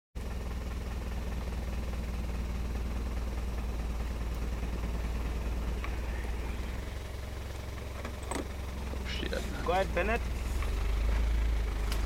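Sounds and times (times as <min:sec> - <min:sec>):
vehicle engine running: 0:00.2 - 0:12.0.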